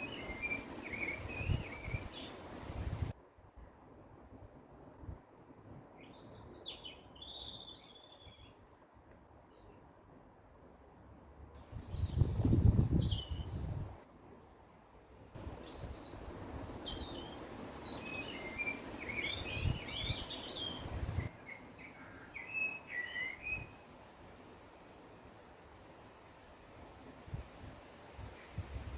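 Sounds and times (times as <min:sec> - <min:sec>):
songbirds chirping: 0:00.0 - 0:03.1, 0:05.8 - 0:27.0
outdoor background hiss: 0:00.0 - 0:28.9.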